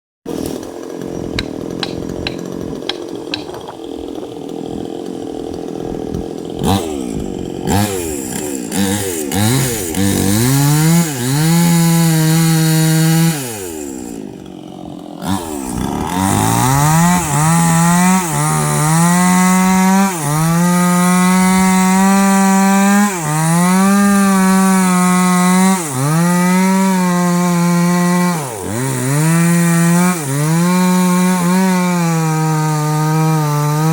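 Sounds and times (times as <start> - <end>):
chainsaw revving: 0.3 - 33.9.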